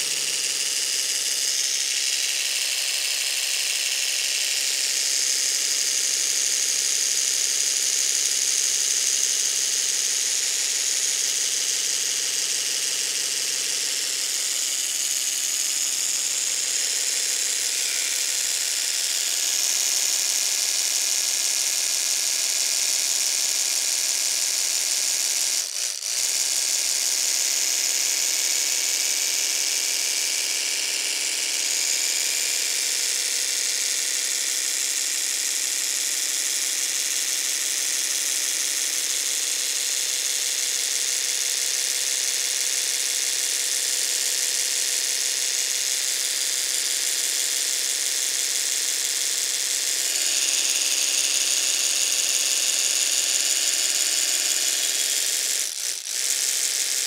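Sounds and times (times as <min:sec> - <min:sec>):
electric toothbrush buzzing: 0:00.0 - 0:57.0.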